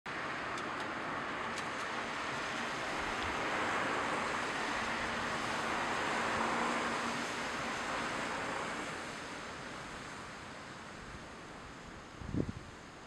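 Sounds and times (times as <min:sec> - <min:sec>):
night ambience hiss: 0:00.1 - 0:13.0.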